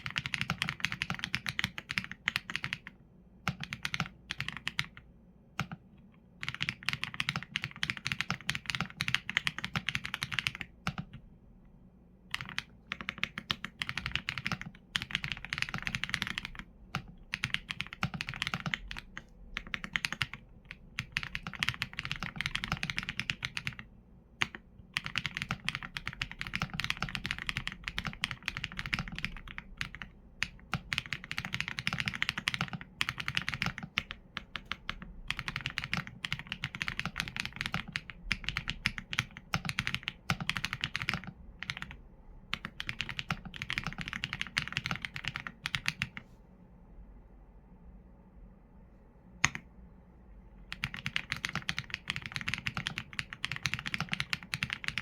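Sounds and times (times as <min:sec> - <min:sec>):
typing on a mechanical keyboard: 0:00.0 - 0:05.8, 0:06.4 - 0:11.2, 0:12.3 - 0:46.2, 0:49.4 - 0:49.6, 0:50.7 - 0:55.0.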